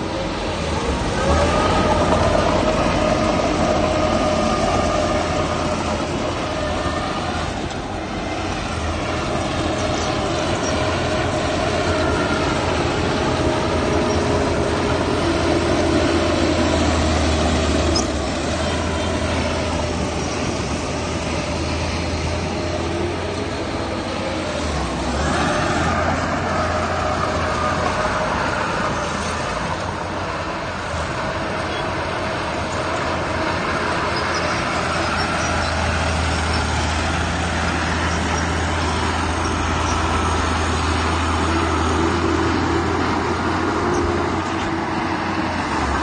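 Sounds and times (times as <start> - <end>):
diesel engine rumble: 0.0 - 46.0.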